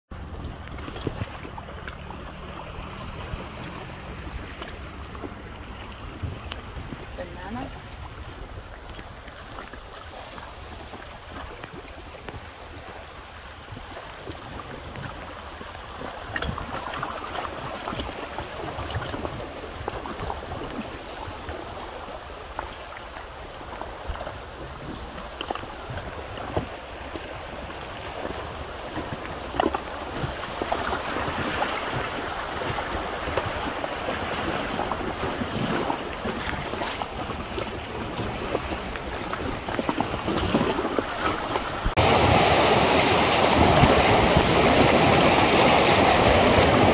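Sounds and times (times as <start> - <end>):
river water rushing and splashing: 0.1 - 46.9.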